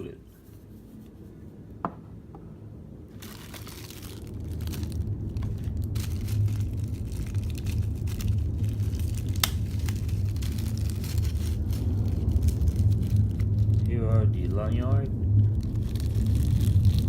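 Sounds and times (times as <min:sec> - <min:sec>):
low handling rumble: 0:00.0 - 0:17.0
plastic packaging crinkling: 0:03.1 - 0:17.0.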